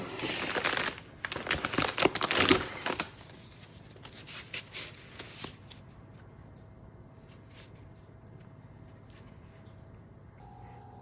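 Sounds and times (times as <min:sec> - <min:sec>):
rustling and crinkling: 0:00.0 - 0:10.0.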